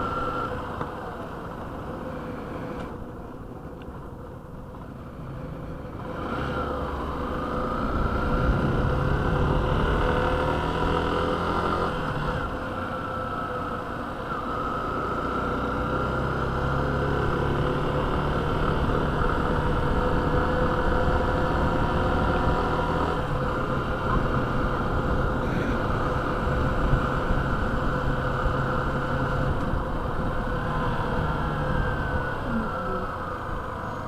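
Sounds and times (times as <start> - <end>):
wind and road noise: 0.0 - 34.0
motorcycle engine running: 4.8 - 34.0.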